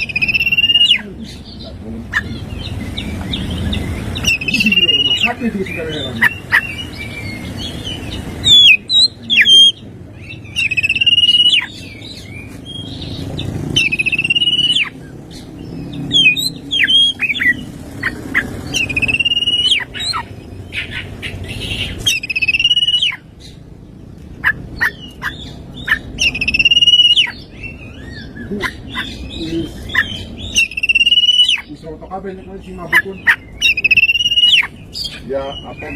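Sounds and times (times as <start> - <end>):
bird downward-sliding calls: 0.0 - 23.6, 24.4 - 31.8, 32.6 - 35.9
bird singing whistled notes: 0.0 - 23.6, 24.8 - 31.8, 32.4 - 35.9.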